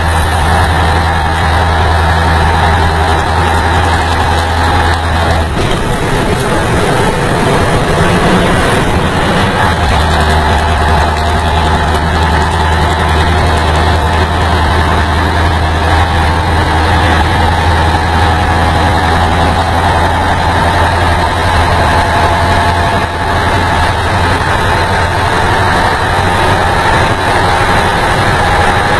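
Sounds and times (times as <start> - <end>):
diesel truck engine droning: 0.0 - 28.9
road noise: 0.0 - 28.9
wind noise: 0.0 - 28.9.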